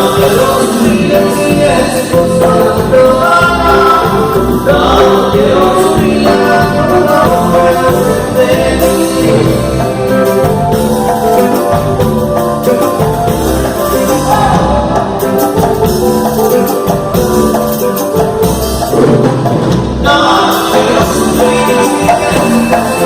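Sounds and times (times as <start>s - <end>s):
person singing: 0.0s - 17.0s, 20.0s - 23.0s
live cumbia band playing: 0.0s - 23.0s.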